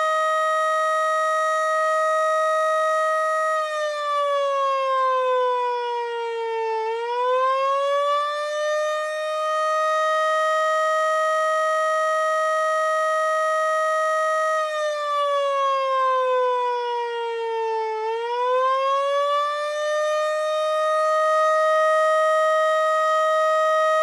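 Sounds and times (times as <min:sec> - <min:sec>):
siren wailing: 0:00.0 - 0:24.0.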